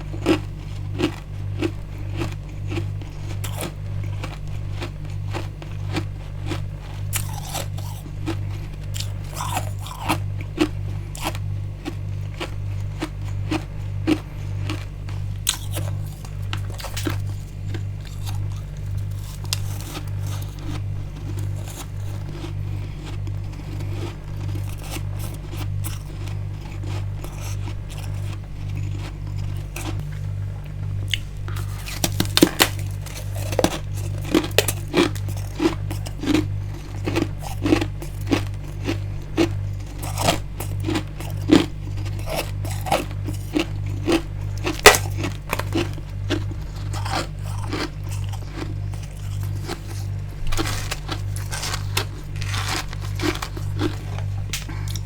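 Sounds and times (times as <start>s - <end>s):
frost being chewed crunching: 0.0s - 55.0s
low pulsing hum: 0.0s - 55.0s.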